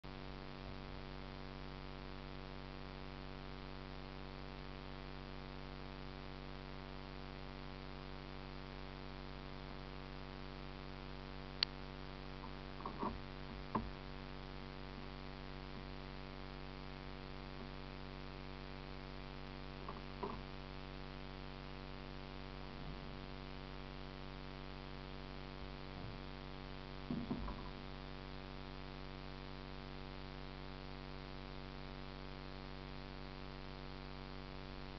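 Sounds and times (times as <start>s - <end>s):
electrical hum: 0.1s - 34.9s.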